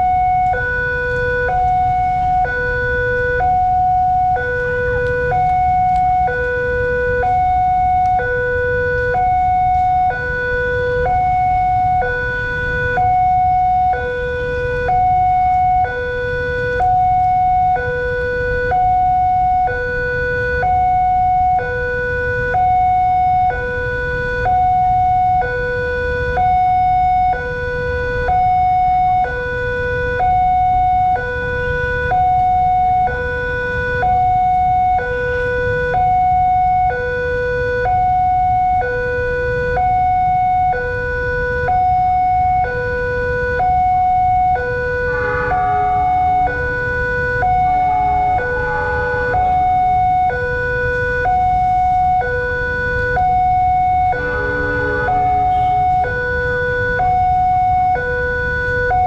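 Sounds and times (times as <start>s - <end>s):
road traffic rumble: 0.0s - 59.0s
two-tone crossing warning siren: 0.0s - 59.0s.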